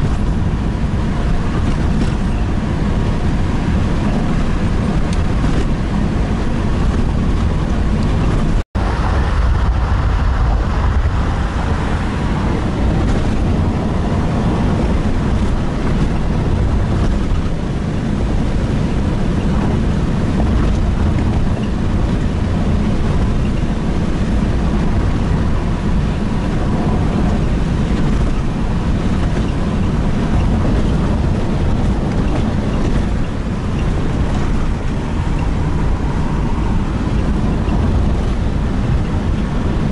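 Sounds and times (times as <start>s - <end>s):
car road noise from cabin: 0.0s - 39.9s.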